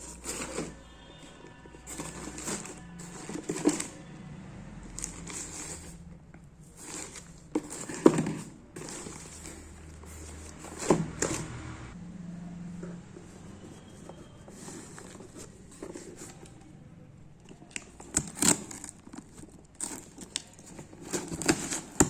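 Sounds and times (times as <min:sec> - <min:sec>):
packaging rustling and scraping: 0:00.0 - 0:04.2, 0:04.8 - 0:11.7, 0:13.2 - 0:16.8, 0:17.4 - 0:22.0.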